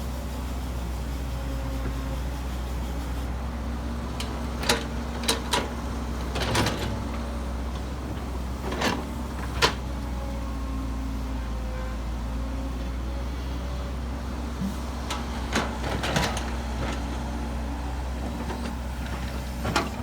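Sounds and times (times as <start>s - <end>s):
heavy diesel machinery droning: 0.0s - 20.0s.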